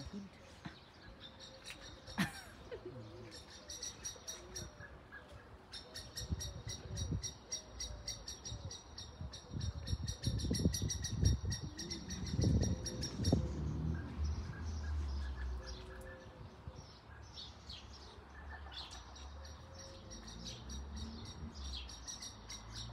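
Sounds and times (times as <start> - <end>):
birds chirping rapidly: 0.0 - 22.9
soft bird calls: 0.0 - 22.9.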